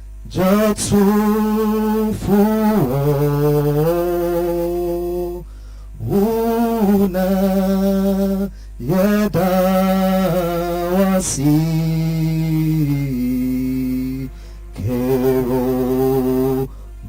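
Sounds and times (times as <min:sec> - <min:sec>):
faint low hum: 0:00.0 - 0:17.0
man chanting prayer: 0:00.2 - 0:17.0.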